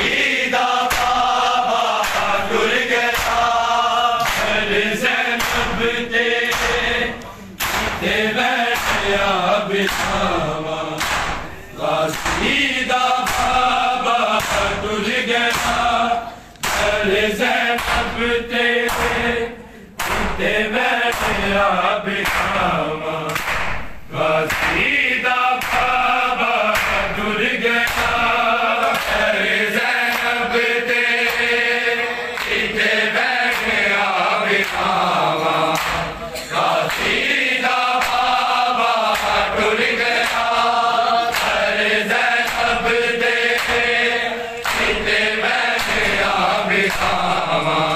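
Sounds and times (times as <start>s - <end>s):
men chanting in unison: 0.0s - 47.9s
rhythmic chest slaps: 0.0s - 47.9s.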